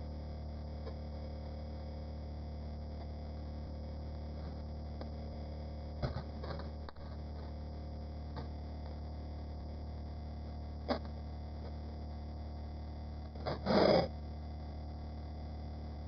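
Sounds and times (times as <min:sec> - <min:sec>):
electrical drone with low hum: 0:00.0 - 0:16.0.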